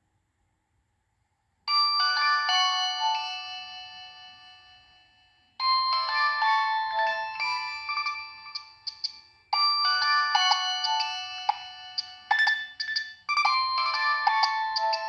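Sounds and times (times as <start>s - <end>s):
phone ringtone: 1.8s - 15.0s.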